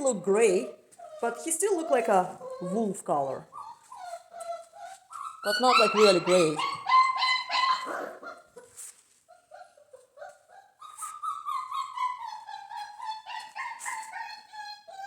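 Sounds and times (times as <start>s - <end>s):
dog whining and whimpering: 0.0s - 8.7s, 9.4s - 15.0s.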